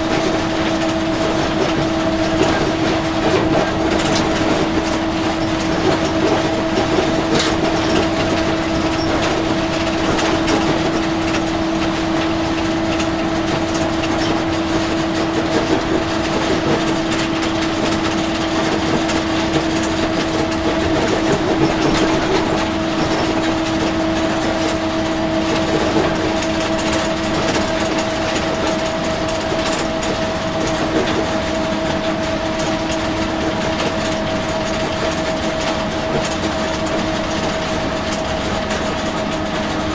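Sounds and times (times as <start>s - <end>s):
bus engine and road noise: 0.0s - 39.9s
rattles from body and seats: 0.0s - 39.9s.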